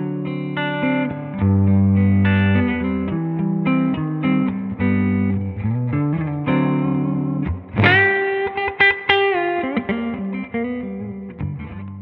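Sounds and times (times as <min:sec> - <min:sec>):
electric guitar playing: 0:00.0 - 0:12.0.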